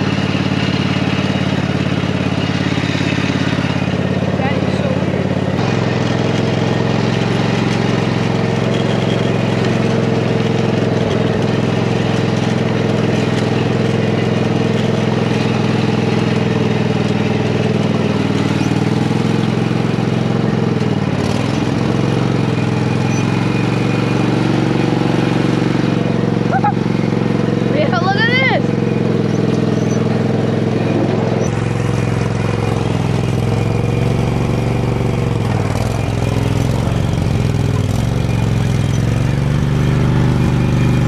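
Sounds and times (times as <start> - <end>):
lawn tractor engine running: 0.0 - 41.0.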